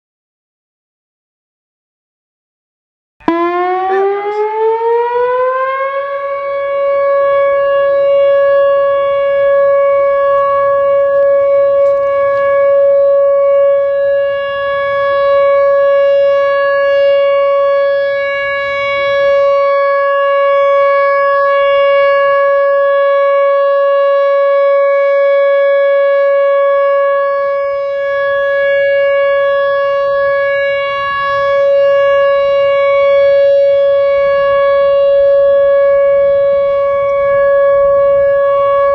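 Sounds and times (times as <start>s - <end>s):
warning siren steady tone: 3.2s - 38.9s.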